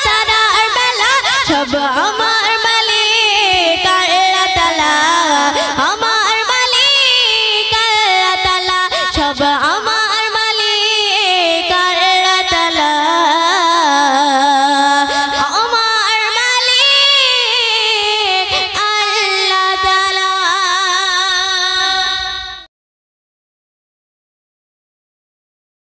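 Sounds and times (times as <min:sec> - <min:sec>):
woman singing into a microphone: 0:00.0 - 0:22.7.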